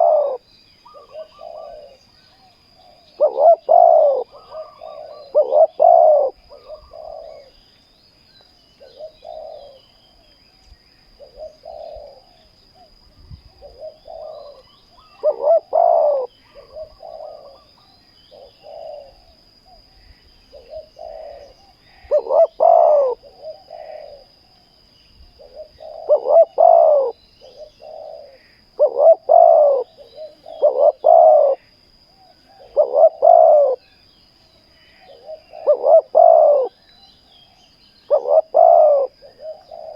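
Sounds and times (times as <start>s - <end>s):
doves cooing: 0.0s - 7.7s, 8.8s - 10.1s, 11.2s - 19.8s, 20.5s - 24.6s, 25.4s - 34.1s, 34.7s - 39.9s.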